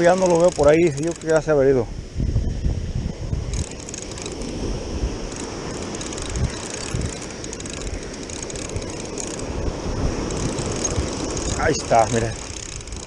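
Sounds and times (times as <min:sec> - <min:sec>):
fishing reel whirring and clicking: 0:00.0 - 0:01.6, 0:03.4 - 0:13.0
wind buffeting microphone: 0:00.0 - 0:13.0.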